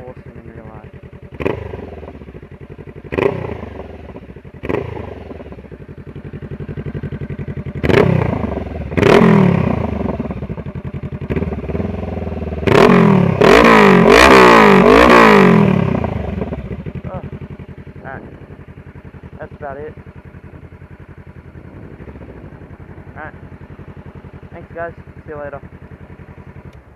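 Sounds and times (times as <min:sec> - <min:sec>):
loud motorcycle engine revving: 0:00.0 - 0:26.9.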